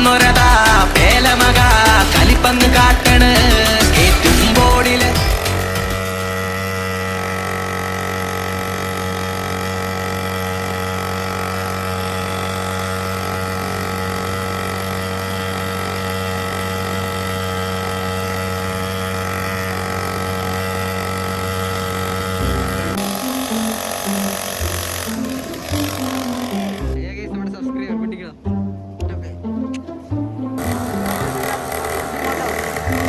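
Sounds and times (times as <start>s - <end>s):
dirt bike engine idling: 0.0s - 28.3s, 30.6s - 33.0s.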